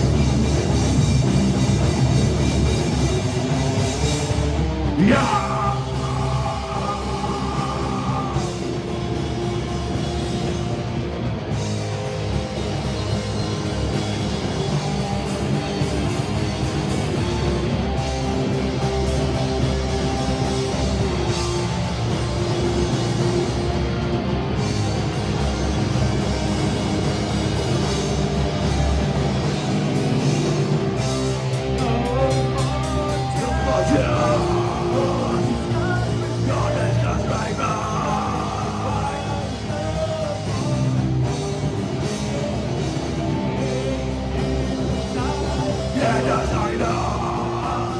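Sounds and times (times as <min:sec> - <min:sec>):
drum kit: 0:00.0 - 0:47.9
electric guitars: 0:00.0 - 0:47.9
live heavy rock band: 0:00.0 - 0:47.9.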